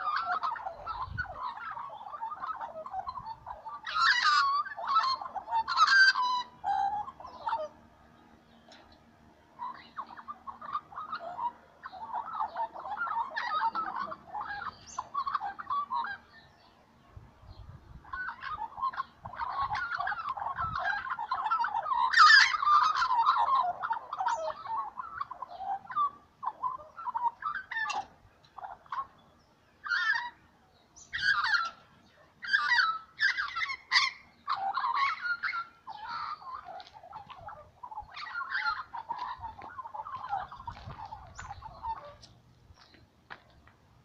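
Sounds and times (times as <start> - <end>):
magpies warbling: 0.0 - 43.5.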